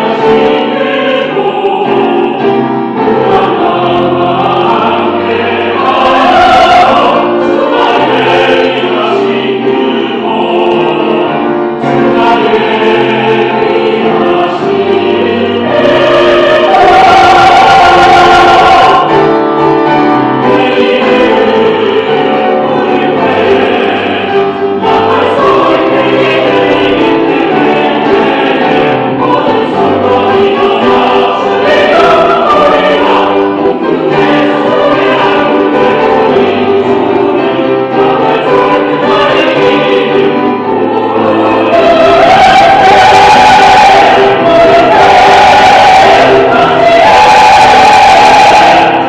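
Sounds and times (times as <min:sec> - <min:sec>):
choir singing a hymn: 0:00.0 - 0:49.0.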